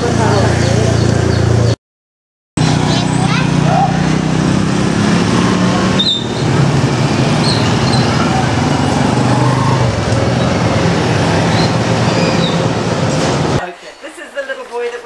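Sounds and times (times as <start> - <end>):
street noise: 0.0 - 1.8, 2.6 - 15.0
vehicle engines running: 0.0 - 1.8, 2.6 - 13.6.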